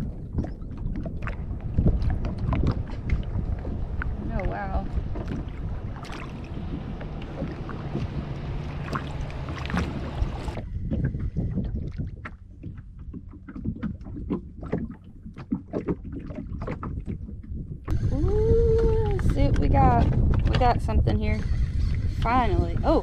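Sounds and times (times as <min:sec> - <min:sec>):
water lapping against kayak hull: 0:00.0 - 0:23.0
wind on microphone: 0:00.0 - 0:23.0.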